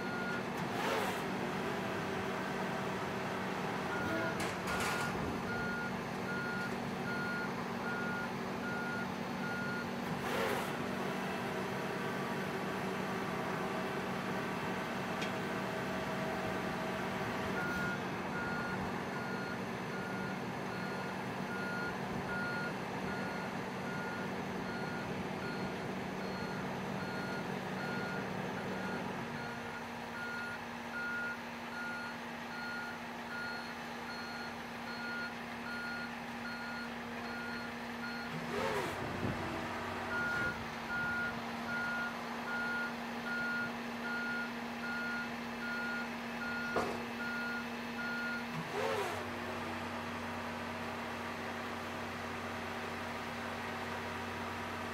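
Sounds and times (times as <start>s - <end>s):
engine and hydraulic drone: 0.0s - 54.9s.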